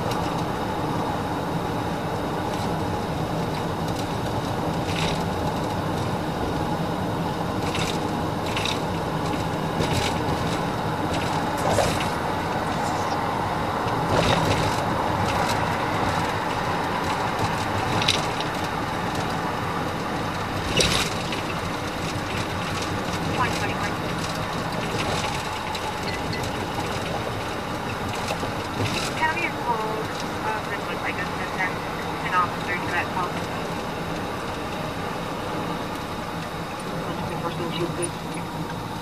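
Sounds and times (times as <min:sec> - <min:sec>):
car road and engine noise: 0:00.0 - 0:39.0.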